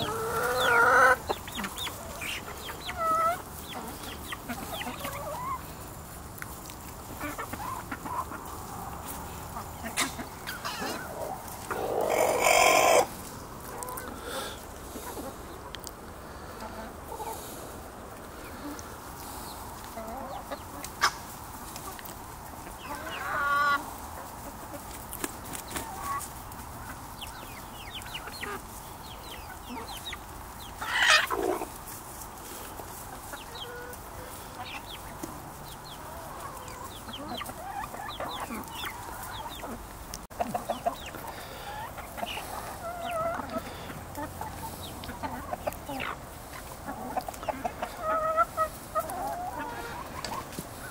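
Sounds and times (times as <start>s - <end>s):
loud chicken calls: 0.0s - 5.9s, 7.0s - 21.3s, 22.6s - 50.9s
chickens clucking: 0.0s - 50.9s.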